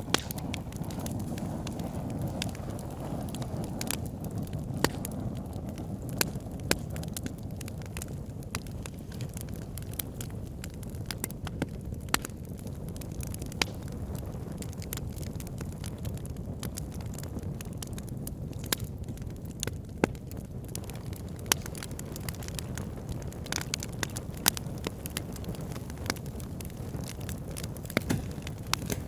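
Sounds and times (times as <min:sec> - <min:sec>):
fire crackling and popping: 0:00.0 - 0:29.0
fire flames rushing: 0:00.0 - 0:29.0.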